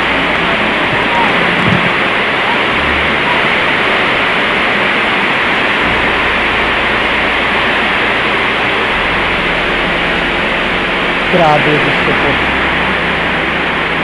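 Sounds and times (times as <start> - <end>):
heavy rain: 0.0 - 14.0
rushing floodwater: 0.0 - 14.0.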